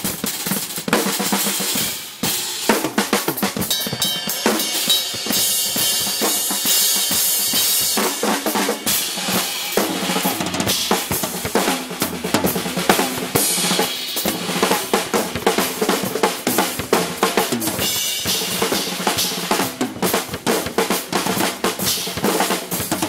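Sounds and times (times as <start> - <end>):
cymbals: 0.0 - 23.0
snare and bass drum strokes: 0.0 - 23.0.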